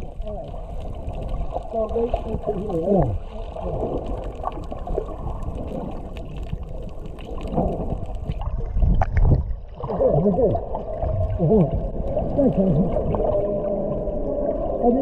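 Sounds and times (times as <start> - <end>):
underwater rushing and bubbling: 0.0 - 15.0.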